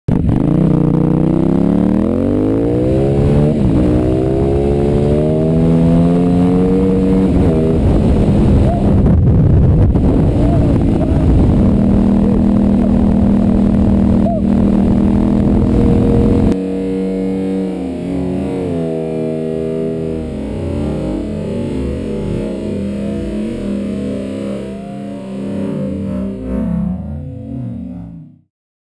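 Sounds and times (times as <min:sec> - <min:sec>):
distorted guitar music: 0:00.1 - 0:28.5
motorcycle engine revving: 0:00.1 - 0:28.5.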